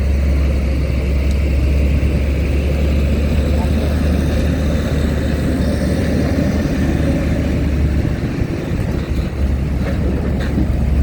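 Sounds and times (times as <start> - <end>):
heavy vehicle engines rumbling: 0.0 - 11.0.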